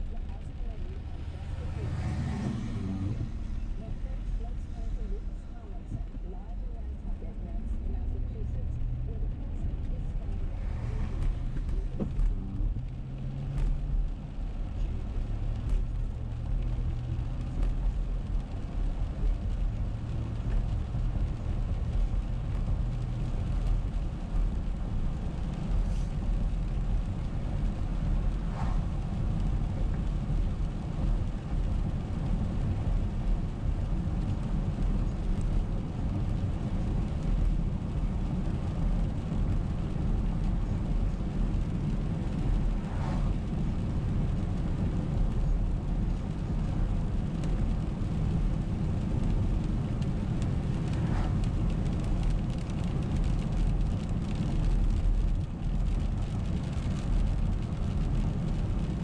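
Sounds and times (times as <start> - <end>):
car driving on wet road: 0.0 - 59.0.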